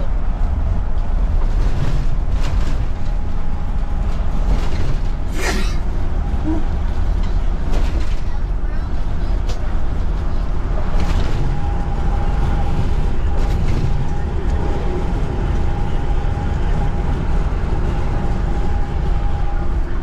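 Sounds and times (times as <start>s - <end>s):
engine and road noise rumble: 0.0s - 20.0s.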